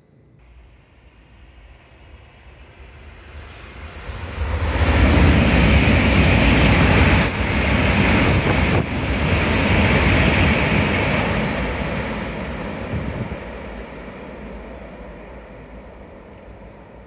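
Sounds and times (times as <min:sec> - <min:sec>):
high-speed train passing: 0:00.5 - 0:17.0.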